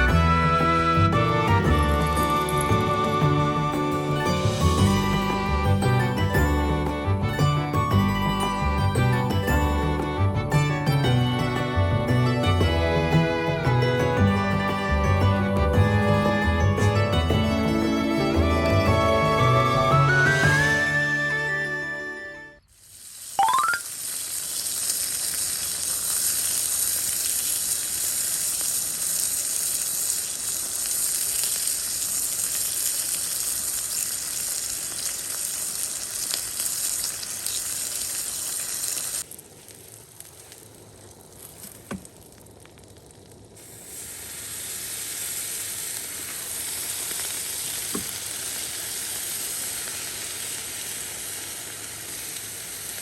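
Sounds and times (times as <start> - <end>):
food frying sizzle: 0.0 - 13.1, 22.6 - 53.0.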